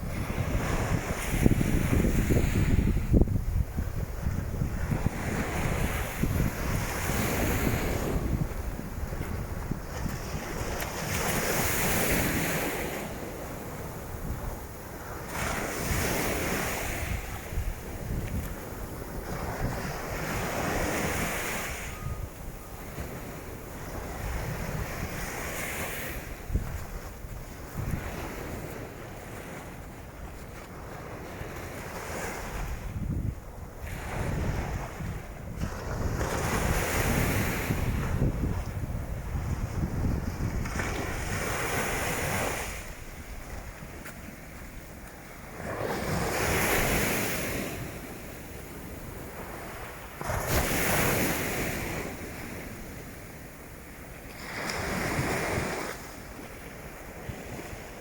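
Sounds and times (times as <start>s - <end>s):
wind buffeting microphone: 0.0s - 53.2s
surf washing onto beach: 0.0s - 58.0s.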